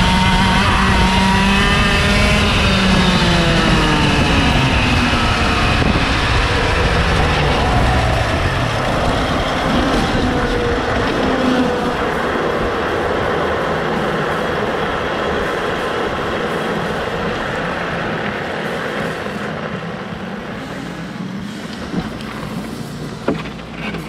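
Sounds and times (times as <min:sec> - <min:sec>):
kart engines droning: 0:00.0 - 0:24.0.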